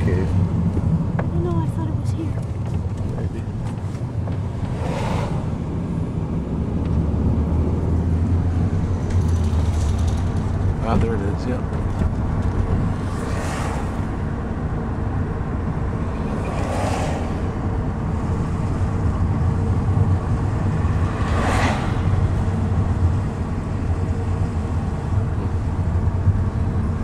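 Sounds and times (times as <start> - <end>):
car interior road rumble: 0.0 - 27.0.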